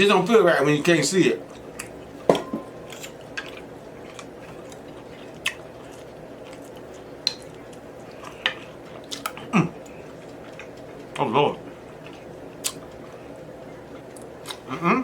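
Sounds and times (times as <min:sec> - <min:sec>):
faint room hum: 0:00.0 - 0:15.0
person eating: 0:01.4 - 0:15.0.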